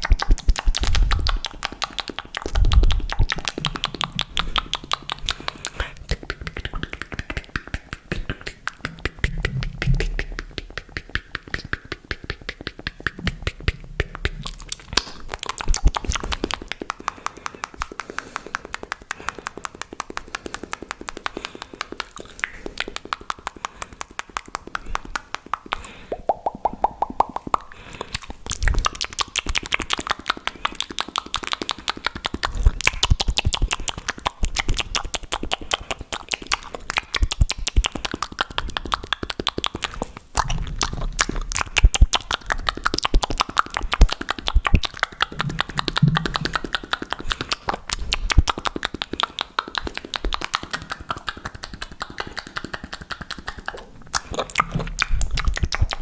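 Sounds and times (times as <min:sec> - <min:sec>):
wet mouth clicks and pops: 0:00.0 - 0:56.0.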